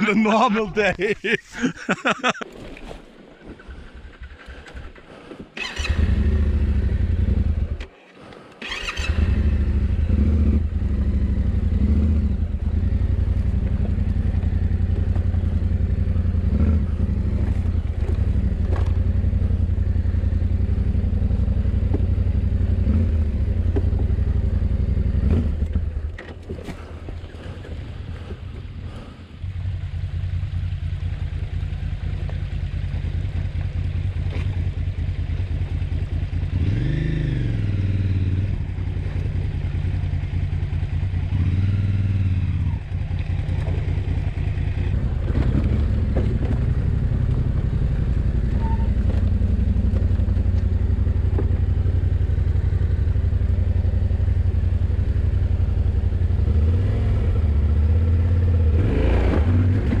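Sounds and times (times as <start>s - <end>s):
motorcycle engine revving: 3.7s - 7.9s, 8.6s - 60.0s.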